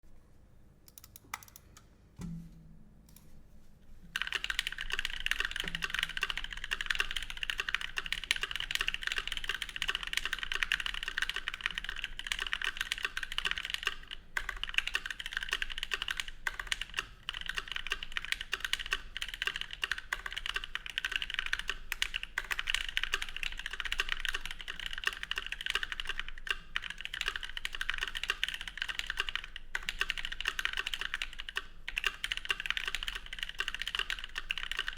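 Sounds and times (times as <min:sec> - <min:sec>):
fast typing on mechanical keyboard: 0:04.2 - 0:34.9.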